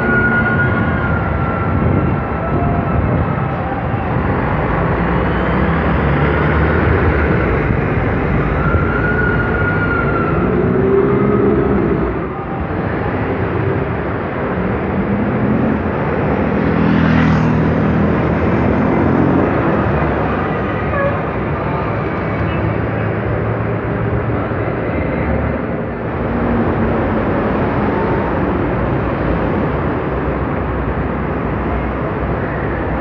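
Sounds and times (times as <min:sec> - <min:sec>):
buses driving past: 0:00.0 - 0:33.0
street traffic: 0:00.0 - 0:33.0.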